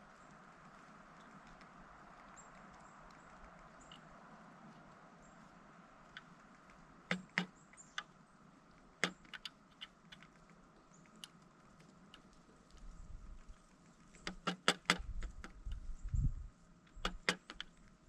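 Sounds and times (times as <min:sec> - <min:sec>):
woodpecker tapping: 0:00.1 - 0:04.2, 0:04.8 - 0:16.2, 0:16.8 - 0:18.0.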